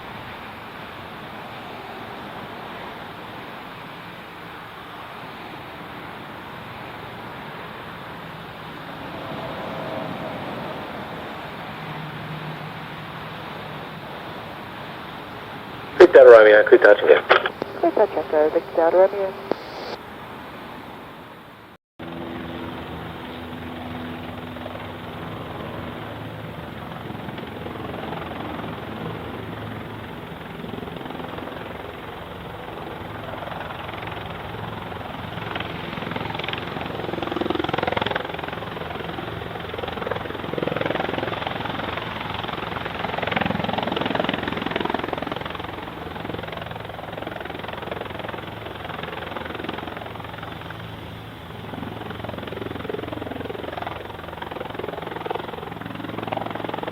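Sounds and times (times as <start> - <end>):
light aircraft engine drone: 0.0 - 56.9.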